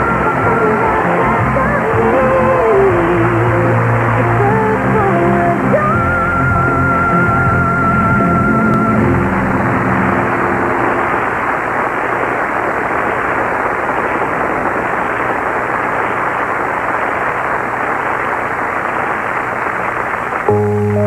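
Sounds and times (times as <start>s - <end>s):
audience cheering and applauding: 0.0s - 21.0s.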